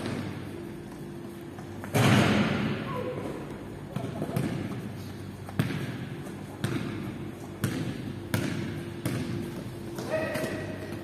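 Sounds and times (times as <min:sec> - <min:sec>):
basketball bouncing on gym floor: 0:00.0 - 0:11.0.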